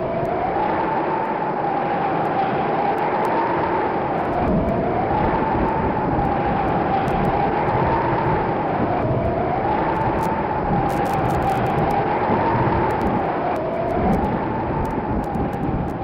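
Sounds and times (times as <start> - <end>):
howling wind: 0.0 - 16.0.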